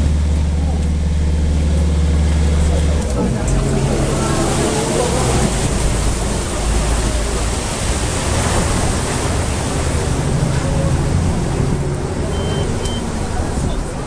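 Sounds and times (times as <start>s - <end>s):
low engine hum: 0.0s - 14.0s
water splashing off hull: 0.0s - 14.0s.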